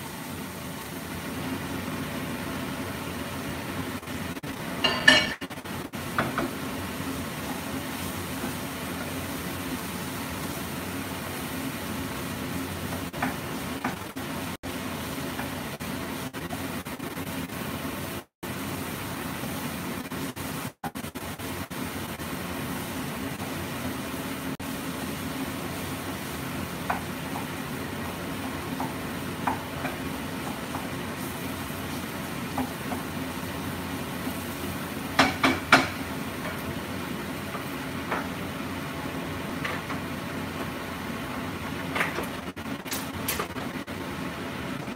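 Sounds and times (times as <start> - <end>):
vegetables sizzling in a frying pan: 0.0 - 44.9.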